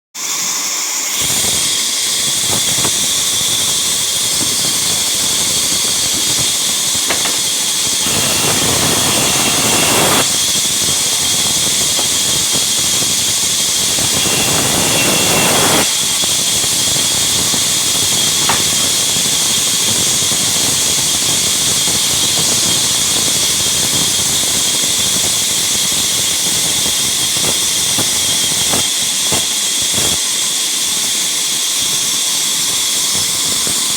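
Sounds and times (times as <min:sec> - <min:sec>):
saw whining through wood: 0:00.2 - 0:33.9.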